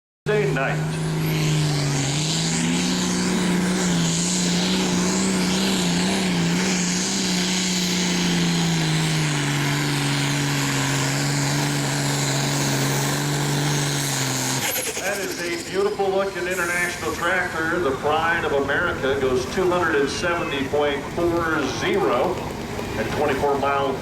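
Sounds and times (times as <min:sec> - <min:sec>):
diesel tractor engine under load: 0:00.3 - 0:24.0.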